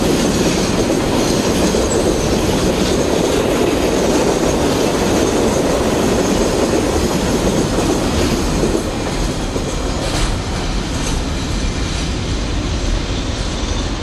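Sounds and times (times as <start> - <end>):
train wheels clacking over rail joints: 0.0 - 14.0.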